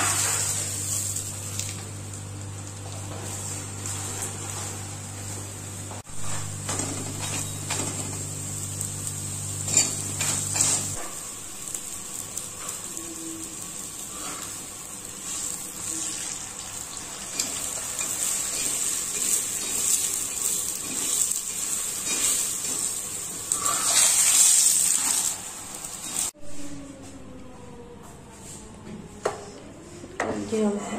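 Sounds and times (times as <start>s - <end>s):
oil sizzling and crackling: 0.0s - 26.4s.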